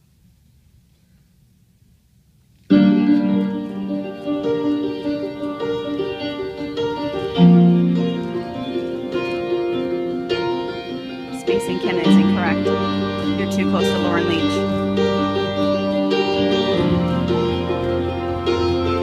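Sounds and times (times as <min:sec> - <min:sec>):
slow instrumental music: 0:02.7 - 0:19.0.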